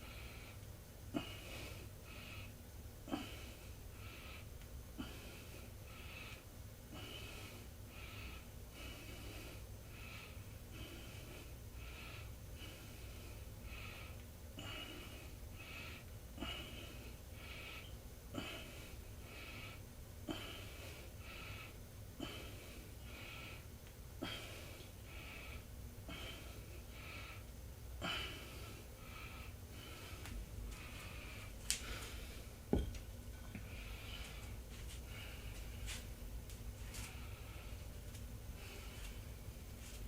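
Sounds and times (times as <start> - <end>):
person breathing hard: 0.0 - 32.9, 33.5 - 36.1, 36.8 - 40.0.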